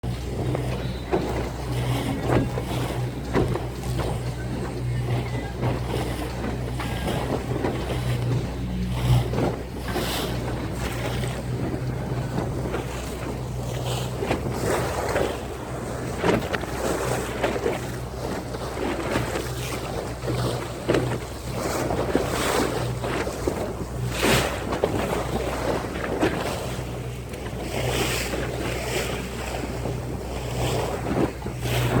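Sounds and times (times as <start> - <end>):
boat engine drone: 0.0 - 32.0
rushing water: 0.0 - 32.0
water splashing: 0.0 - 32.0
wind buffeting microphone: 0.0 - 32.0.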